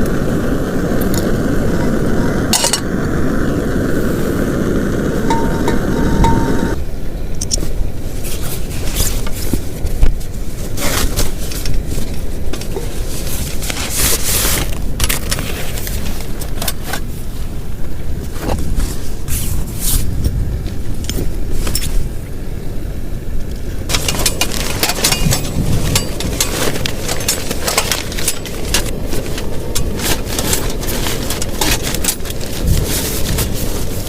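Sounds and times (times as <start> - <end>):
heavy rain rumble: 0.0 - 16.6, 23.1 - 34.0.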